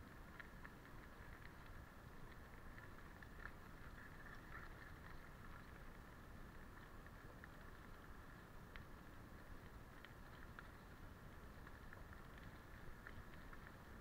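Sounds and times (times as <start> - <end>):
small clicks and rattles: 0.0 - 14.0.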